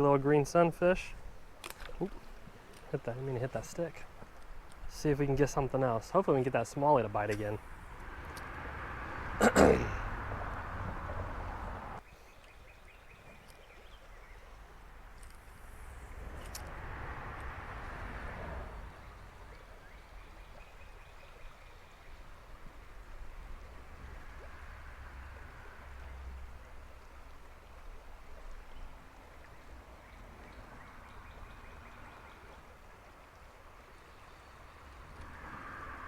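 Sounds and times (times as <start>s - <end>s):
creek water running: 0.0s - 36.0s.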